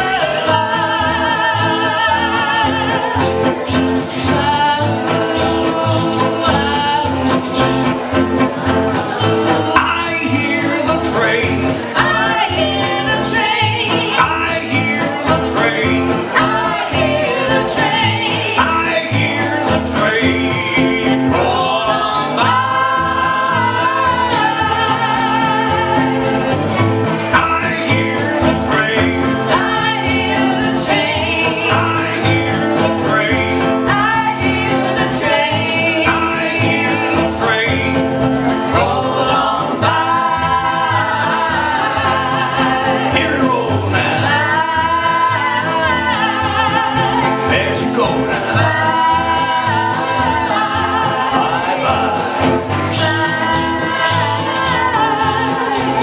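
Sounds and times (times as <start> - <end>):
country song with strings: 0.0 - 56.0.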